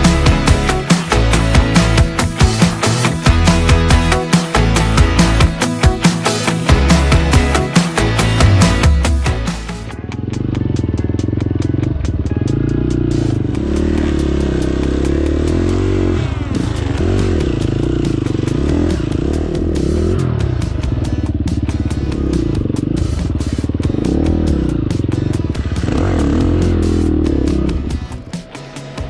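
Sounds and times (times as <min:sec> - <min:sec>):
background music with steady beat: 0:00.0 - 0:29.0
dirt bike engine revving: 0:00.0 - 0:29.0.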